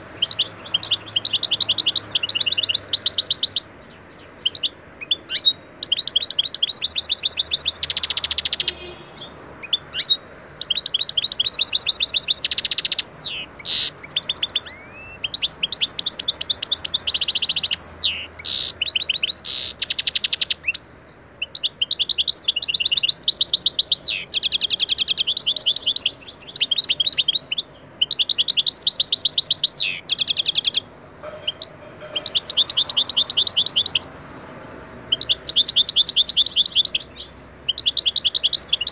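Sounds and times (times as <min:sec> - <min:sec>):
goldfinch singing: 0:00.0 - 0:38.9.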